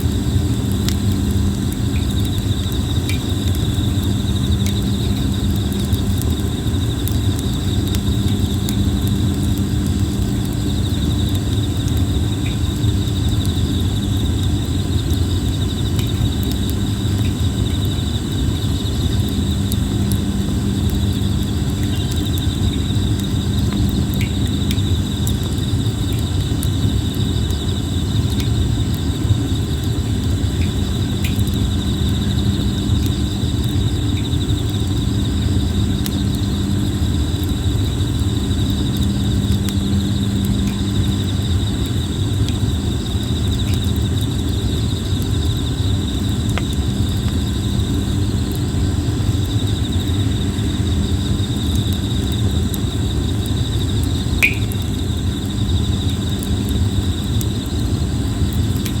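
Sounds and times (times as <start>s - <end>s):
campfire rumbling and crackling: 0.0s - 59.0s
insects trilling: 0.0s - 59.0s.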